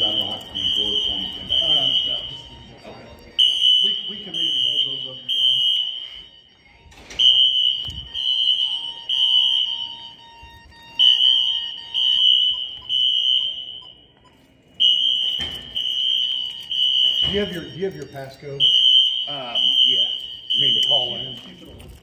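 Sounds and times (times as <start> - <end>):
fire alarm horn blasts: 0.0 - 22.0.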